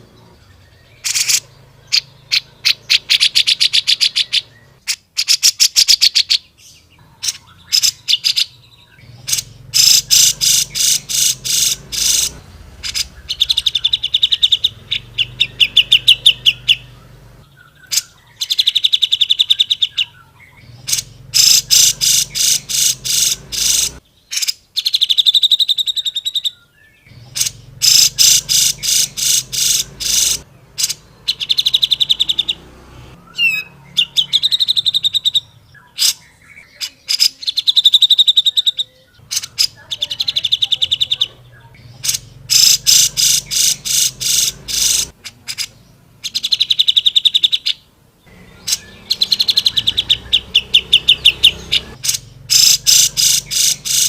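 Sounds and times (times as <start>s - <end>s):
bulbul singing in chattering phrases: 0.0s - 54.0s.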